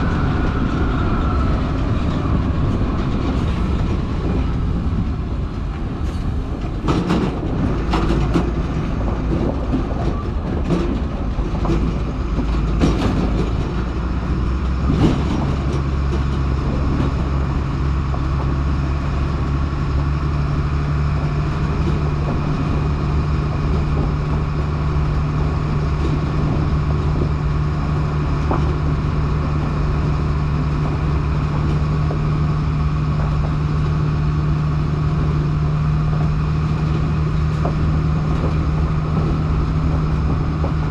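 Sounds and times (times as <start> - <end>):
clanks and rattles: 0.0 - 40.9
truck diesel engine running: 0.0 - 40.9.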